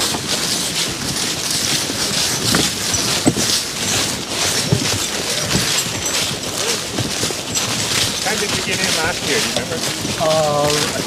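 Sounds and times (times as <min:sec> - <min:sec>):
cart wheels rolling on leaves: 0:00.0 - 0:11.0
footsteps crunching dry leaves: 0:00.0 - 0:11.0.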